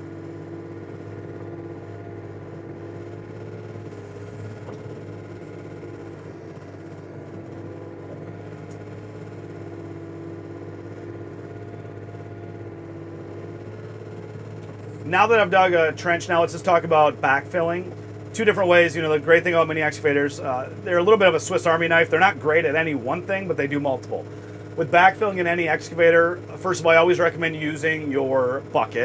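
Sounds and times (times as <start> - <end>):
mini excavator diesel engine: 0.0 - 29.0.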